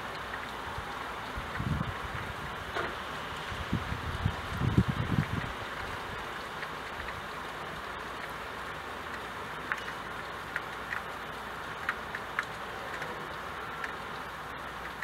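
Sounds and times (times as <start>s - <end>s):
raindrops tapping on window: 0.0s - 15.0s
steady rain hiss: 0.0s - 15.0s.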